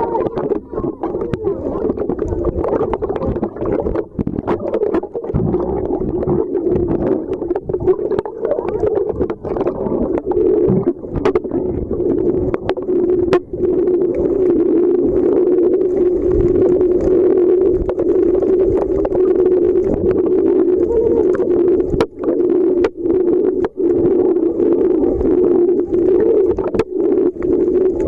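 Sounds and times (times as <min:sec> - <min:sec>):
muffled underwater drone: 0:00.0 - 0:28.0
sharp clicks and crackles: 0:00.0 - 0:28.0.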